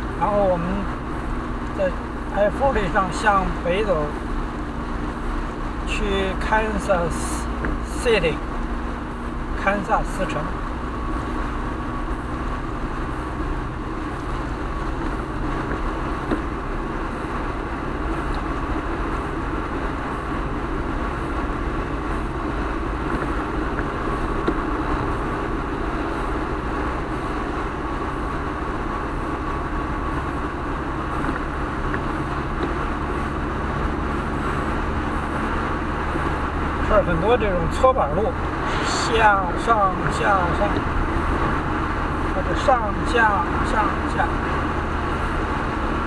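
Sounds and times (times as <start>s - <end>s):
car tyre noise on wet road: 0.0s - 46.0s.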